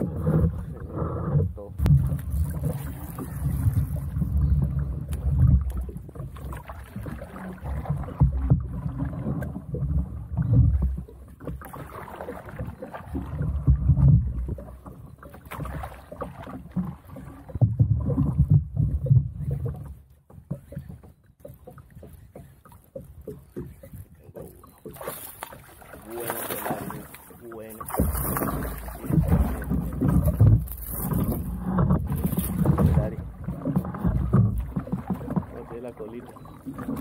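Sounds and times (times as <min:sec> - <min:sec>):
water sloshing against boat hull: 0:00.0 - 0:37.0.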